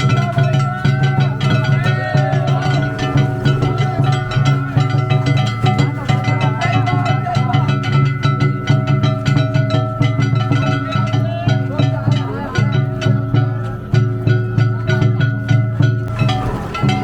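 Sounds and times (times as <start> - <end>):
fast drum beat: 0.0 - 17.0
plucked string instruments: 0.0 - 17.0.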